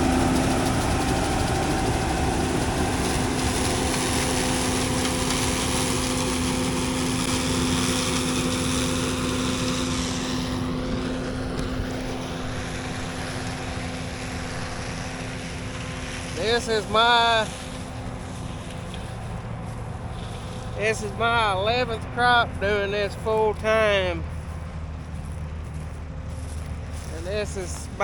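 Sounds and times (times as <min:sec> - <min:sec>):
machinery engine drone: 0:00.0 - 0:28.0.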